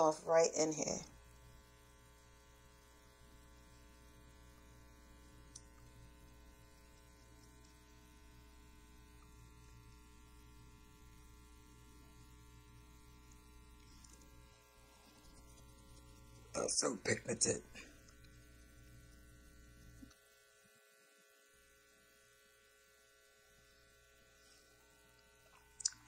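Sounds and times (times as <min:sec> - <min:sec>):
faint electrical mains hum: 0:00.0 - 0:26.0.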